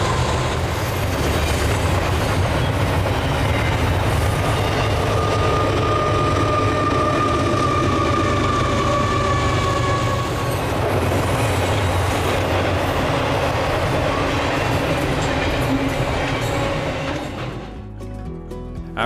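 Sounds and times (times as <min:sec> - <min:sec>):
freight train cars rumbling: 0:00.0 - 0:17.8.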